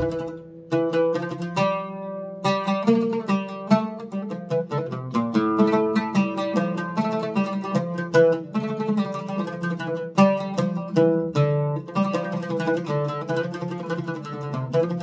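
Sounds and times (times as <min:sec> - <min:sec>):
oud plucked notes: 0:00.0 - 0:15.0.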